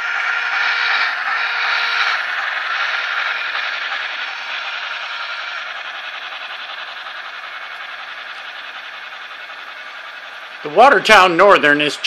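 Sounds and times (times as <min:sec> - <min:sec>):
model train wheels on rail: 0:00.0 - 0:12.0.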